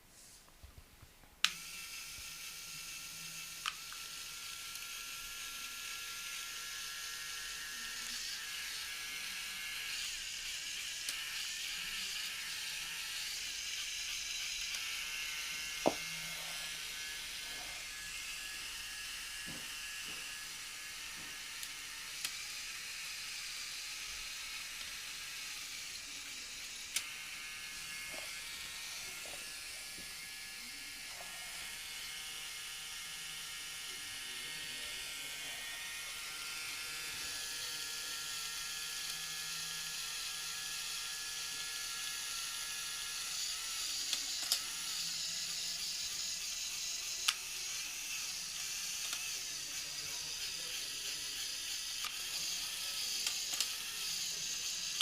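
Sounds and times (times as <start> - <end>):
electric motor whining: 1.4 - 55.0.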